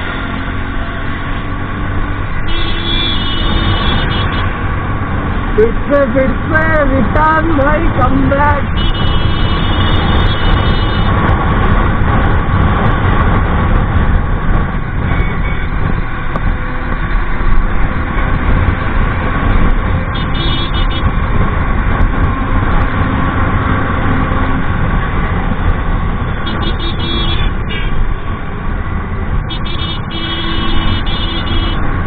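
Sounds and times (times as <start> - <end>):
scooter engine and road noise: 0.0 - 32.0
wind on microphone: 3.4 - 31.1.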